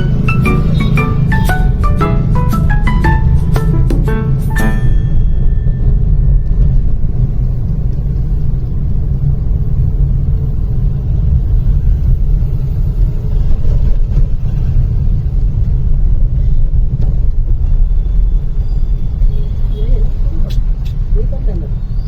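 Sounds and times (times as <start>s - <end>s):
road and wind noise: 0.0s - 22.0s
vehicle rumbling along road: 0.0s - 22.0s.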